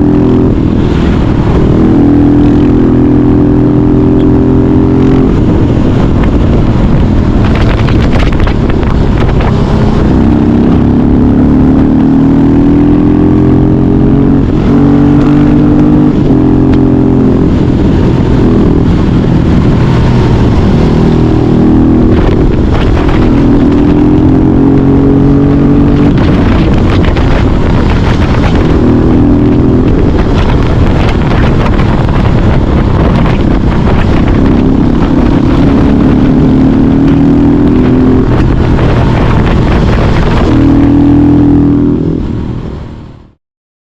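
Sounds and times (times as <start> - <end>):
motorcycle engine revving: 0.0 - 42.8.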